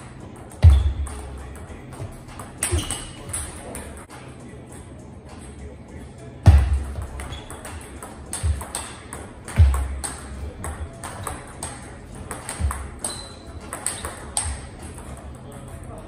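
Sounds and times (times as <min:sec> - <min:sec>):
table tennis ball hits: 0:00.4 - 0:04.1, 0:06.5 - 0:16.0.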